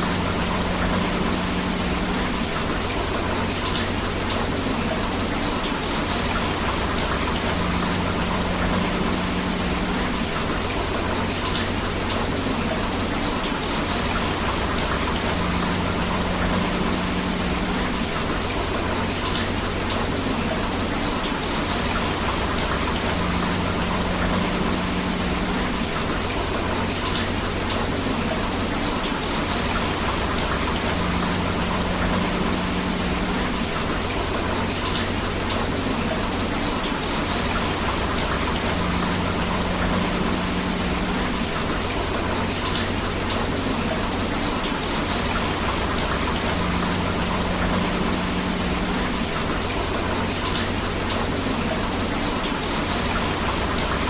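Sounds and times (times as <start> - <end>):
flowing river water: 0.0 - 54.0
steady rain: 0.0 - 54.0.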